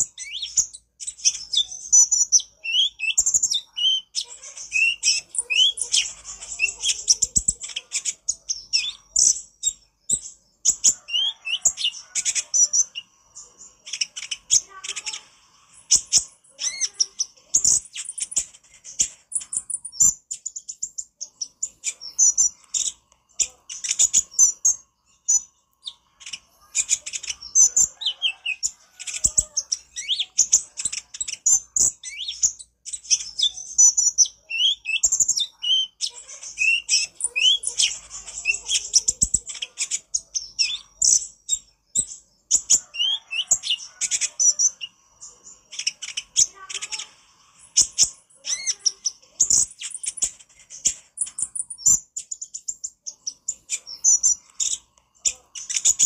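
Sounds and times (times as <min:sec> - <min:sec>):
bird singing rapid chirps and trills: 0:00.0 - 0:56.0.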